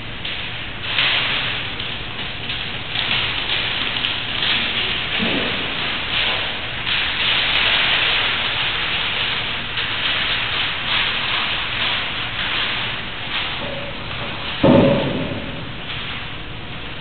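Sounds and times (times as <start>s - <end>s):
release paper peeling with crackling hiss: 0.0s - 17.0s.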